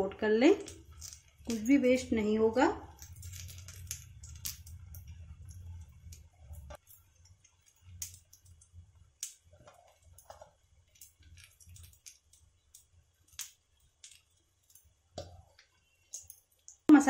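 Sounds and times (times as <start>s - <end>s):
hot oil crackling and popping: 0.0s - 17.0s.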